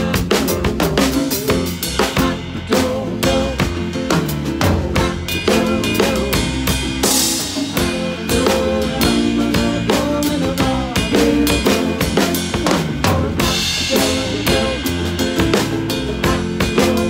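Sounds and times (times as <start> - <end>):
drum kit beat: 0.0 - 17.0
band sustained instruments: 1.5 - 17.0.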